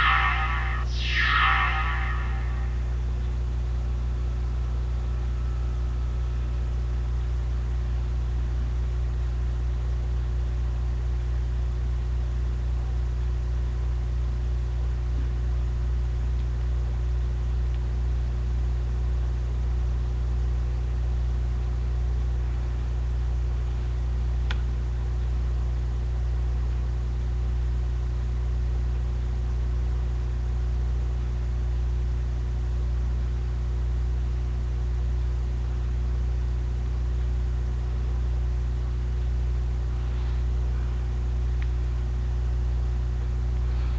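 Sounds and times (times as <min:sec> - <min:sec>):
low mechanical hum: 0:00.0 - 0:43.9.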